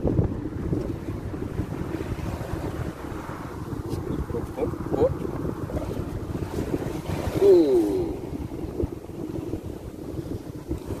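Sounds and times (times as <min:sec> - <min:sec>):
waves washing against seawall: 0:00.0 - 0:11.0
wind buffeting microphone: 0:00.0 - 0:11.0.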